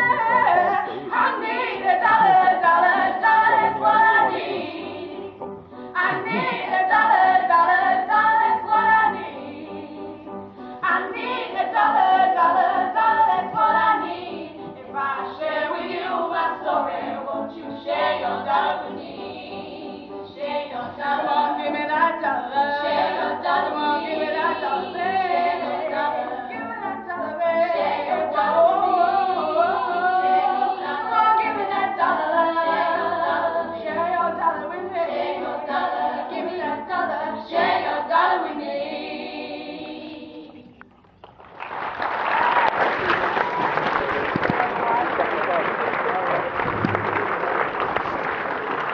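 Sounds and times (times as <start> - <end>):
girls singing together: 0.0 - 5.4, 6.0 - 40.8.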